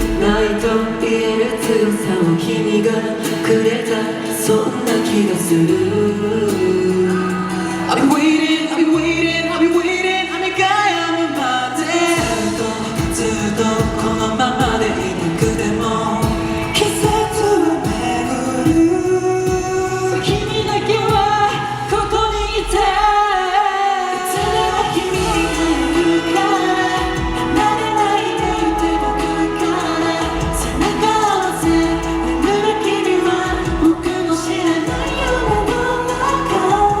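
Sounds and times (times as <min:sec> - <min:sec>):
pop song with sung vocals: 0:00.0 - 0:37.0.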